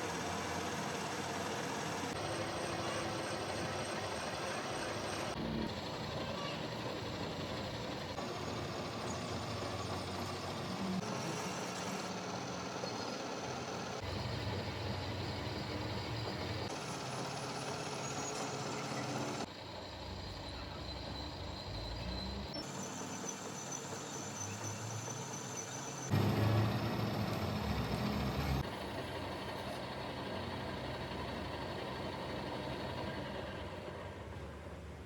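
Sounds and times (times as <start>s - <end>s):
machinery noise: 0.0s - 35.0s.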